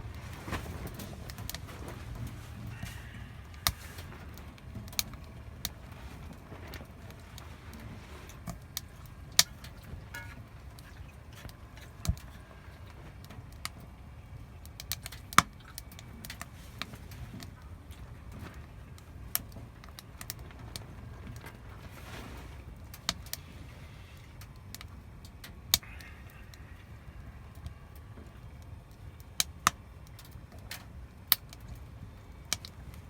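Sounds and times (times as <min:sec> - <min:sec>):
firewood crackling and popping: 0:00.0 - 0:33.0
low steady rumble: 0:00.0 - 0:33.0.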